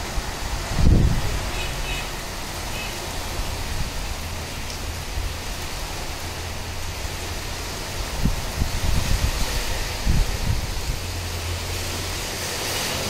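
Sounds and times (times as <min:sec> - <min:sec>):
steady rain: 0:00.0 - 0:13.0
wind rumbling on microphone: 0:00.0 - 0:13.0.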